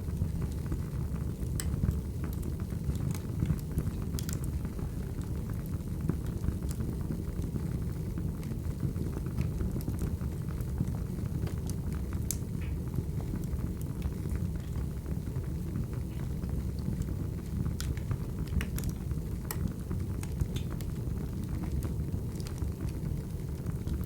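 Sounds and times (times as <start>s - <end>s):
fire rumbling: 0.0s - 24.0s.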